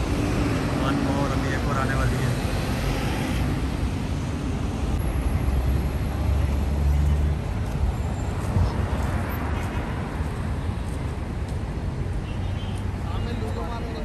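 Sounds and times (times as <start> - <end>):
street noise: 0.0 - 14.0.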